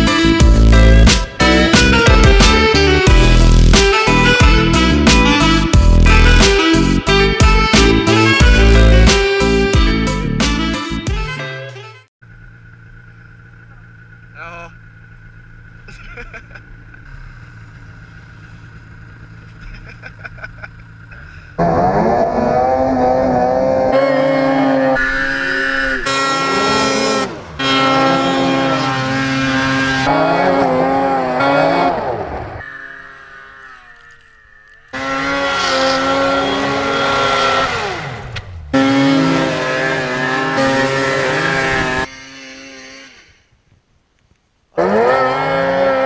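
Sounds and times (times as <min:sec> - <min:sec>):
snowmobile engines revving: 0:00.0 - 0:11.0, 0:12.4 - 0:43.4, 0:44.8 - 0:46.0.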